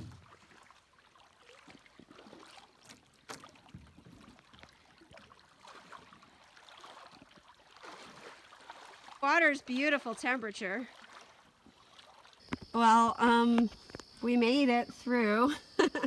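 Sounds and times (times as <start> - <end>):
shallow water splashing: 0.0 - 16.0.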